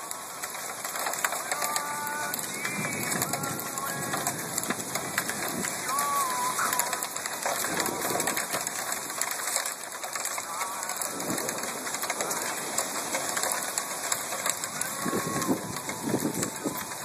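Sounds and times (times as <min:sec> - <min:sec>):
hail pattering on ground: 0:00.0 - 0:17.0.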